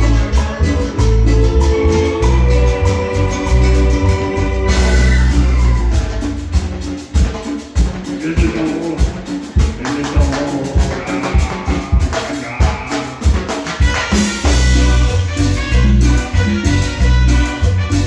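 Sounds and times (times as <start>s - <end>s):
cumbia band music: 0.0s - 18.0s
keyboard: 0.0s - 18.0s
steady drum beat: 0.0s - 18.0s.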